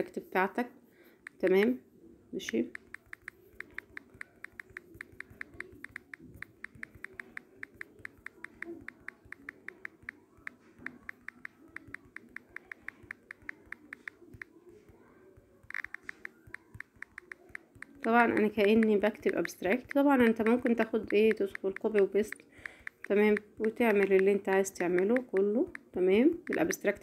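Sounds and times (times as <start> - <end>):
phone keyboard typing clicks: 2.6 - 14.6, 15.6 - 27.0.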